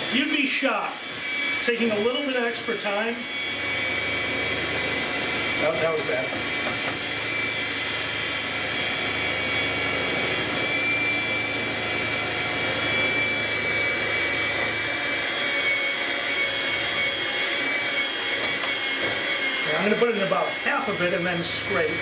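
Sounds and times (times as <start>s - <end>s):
electric hand mixer running: 0.0s - 22.0s.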